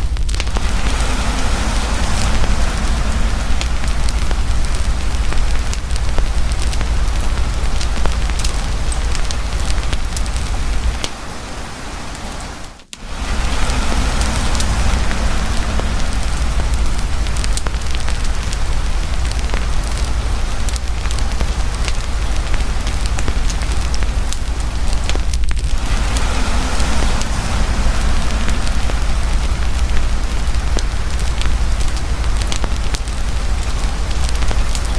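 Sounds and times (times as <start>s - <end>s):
campfire crackling and popping: 0.0s - 11.3s, 12.8s - 34.9s
heavy rain falling: 0.0s - 34.9s.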